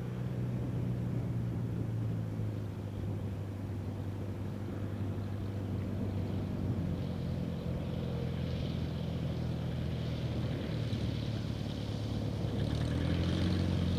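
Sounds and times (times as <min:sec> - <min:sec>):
plane engine and propeller: 0:00.0 - 0:13.9.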